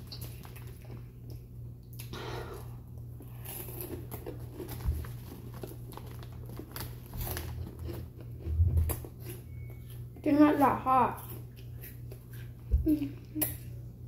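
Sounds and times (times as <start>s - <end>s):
boy chewing crunchy snack: 0.0s - 2.2s, 3.2s - 10.1s, 11.1s - 13.7s.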